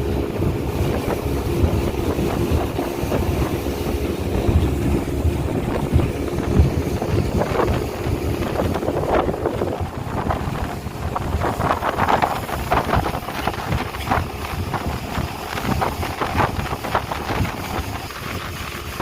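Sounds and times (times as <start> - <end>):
speedboat engine: 0.0 - 19.0
water noise: 0.0 - 19.0
wind buffeting microphone: 0.0 - 19.0.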